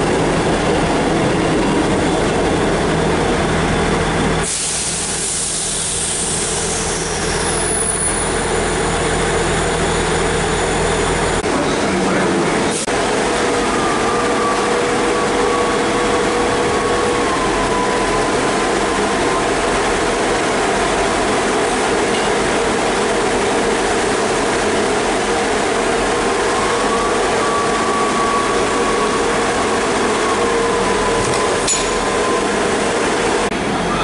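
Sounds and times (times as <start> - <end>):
train diesel engines droning: 0.0 - 34.0.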